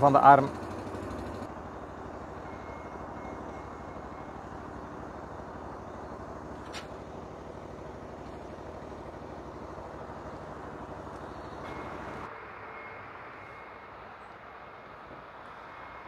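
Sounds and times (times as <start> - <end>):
lift machine drone: 0.0 - 16.0.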